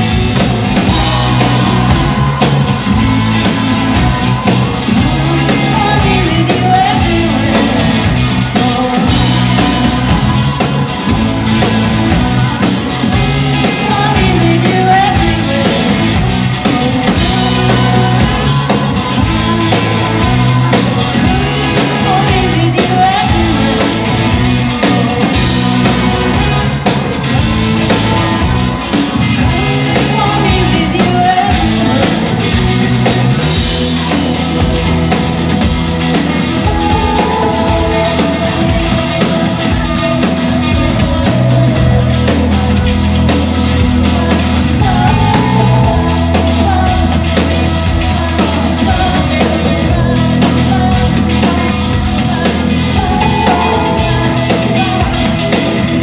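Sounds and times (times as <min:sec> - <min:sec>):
backing vocals: 0:00.0 - 0:56.0
lead vocal: 0:00.0 - 0:56.0
pop-rock band playing: 0:00.0 - 0:56.0.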